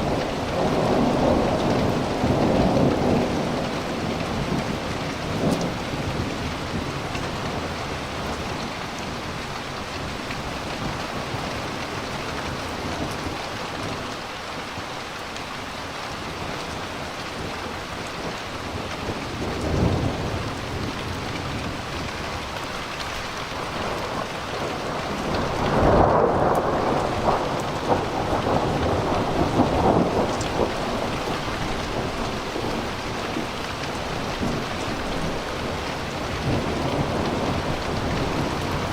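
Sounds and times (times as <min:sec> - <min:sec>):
thunder rumbling and cracking: 0:00.0 - 0:14.1, 0:16.3 - 0:38.9
steady rain: 0:00.0 - 0:38.9.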